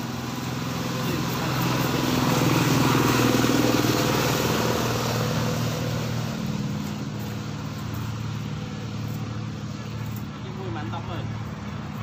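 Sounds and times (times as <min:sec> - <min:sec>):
motor vehicle engine running: 0:00.0 - 0:12.0.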